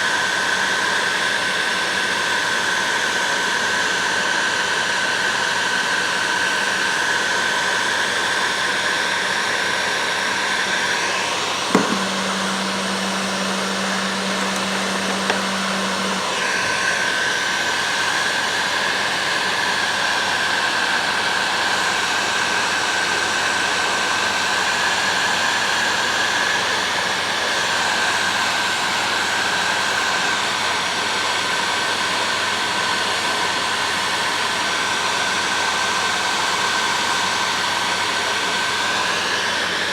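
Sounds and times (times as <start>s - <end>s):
heat gun blowing with whine: 0.0s - 39.9s.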